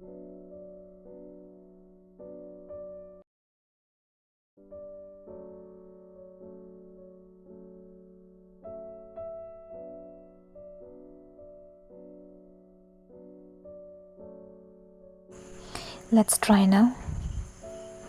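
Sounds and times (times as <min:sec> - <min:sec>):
slow solo piano music: 0:00.0 - 0:03.2, 0:04.6 - 0:18.0.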